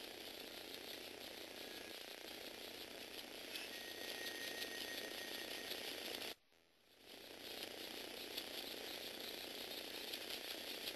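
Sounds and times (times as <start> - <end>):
toy motor whirring: 0.0 - 10.9.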